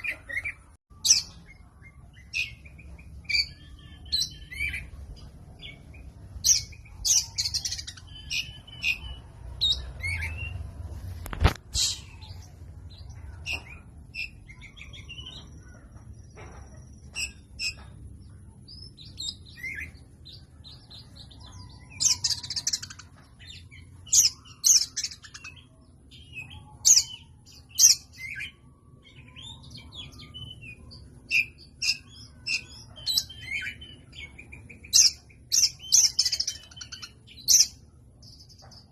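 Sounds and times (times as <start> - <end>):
bird chirping and singing: 0.0 - 38.9.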